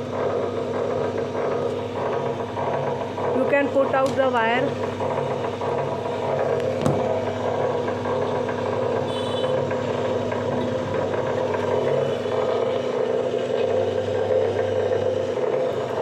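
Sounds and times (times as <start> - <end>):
wire stripping machine humming: 0.0 - 16.0.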